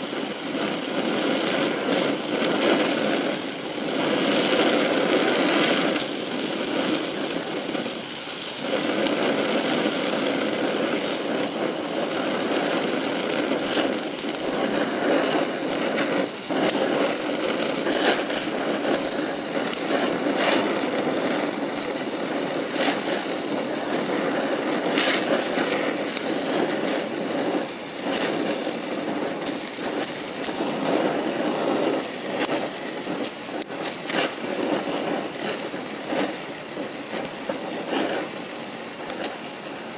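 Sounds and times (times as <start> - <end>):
torch flame hissing: 0.0 - 39.9
weld puddle crackles: 0.0 - 39.9.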